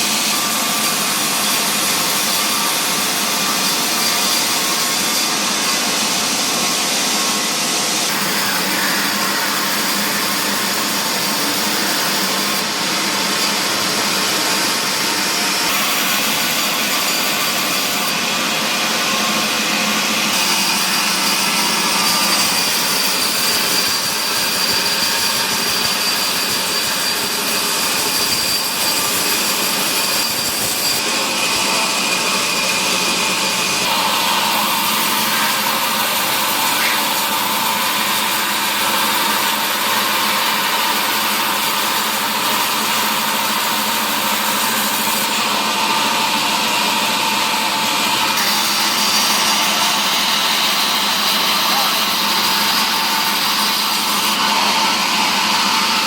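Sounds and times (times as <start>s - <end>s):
woodworking machinery whining: 0.0s - 56.0s.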